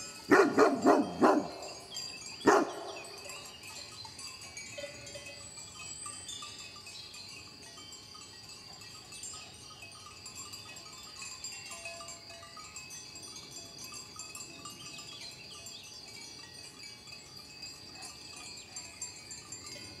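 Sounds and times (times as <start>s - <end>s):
livestock bells tinkling: 0.0s - 20.0s.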